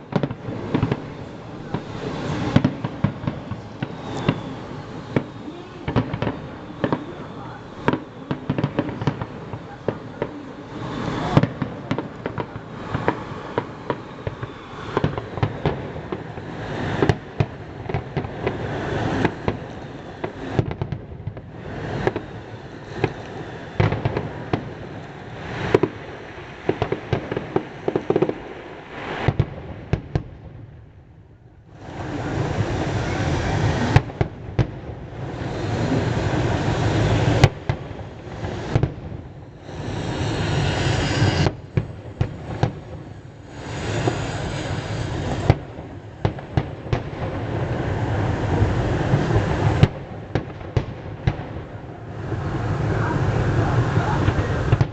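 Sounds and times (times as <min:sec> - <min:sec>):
fireworks bangs and cracks: 0:00.0 - 0:54.9.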